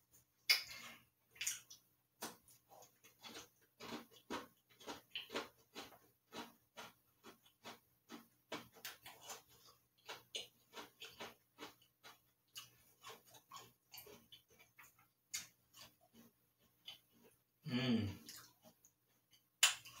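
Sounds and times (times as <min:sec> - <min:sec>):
cookie crunching: 0:00.4 - 0:17.5, 0:18.1 - 0:20.0.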